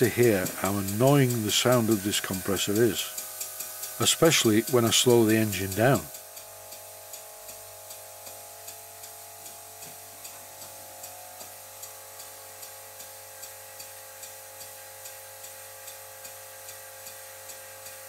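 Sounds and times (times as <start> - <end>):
air compressor whine and hum: 0.0 - 18.0
model steam engine ticking: 0.0 - 18.0.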